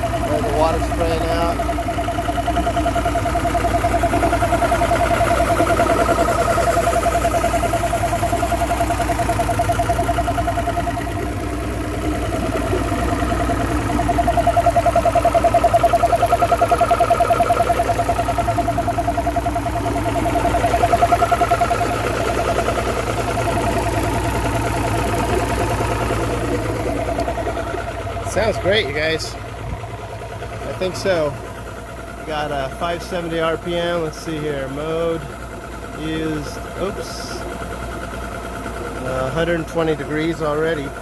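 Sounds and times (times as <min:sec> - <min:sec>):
outboard engine idling: 0:00.0 - 0:41.0.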